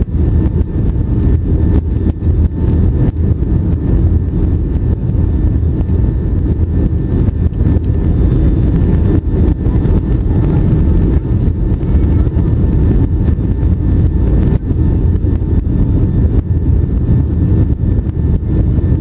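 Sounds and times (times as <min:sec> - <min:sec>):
airliner cabin rumble: 0:00.0 - 0:19.0
faint steady whine: 0:00.0 - 0:19.0.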